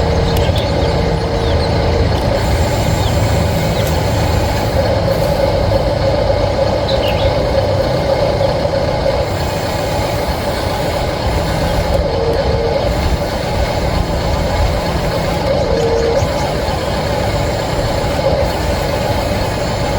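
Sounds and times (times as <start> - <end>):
model construction machine running: 0.0 - 19.9.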